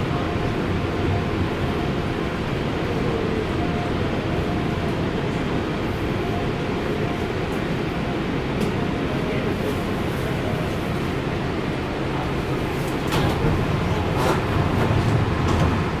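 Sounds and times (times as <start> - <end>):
light rail train rumbling: 0.0 - 16.0.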